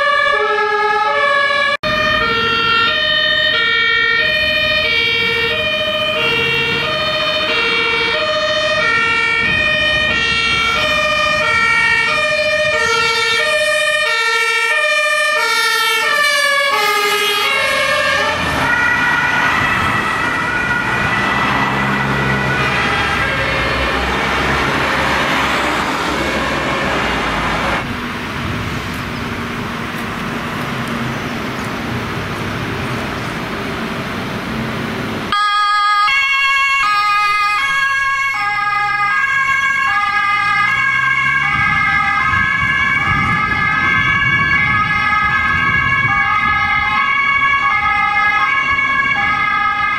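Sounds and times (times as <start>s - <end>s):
two-tone emergency siren: 0.0s - 28.6s, 35.3s - 49.9s
road noise of passing vehicles: 0.0s - 49.9s.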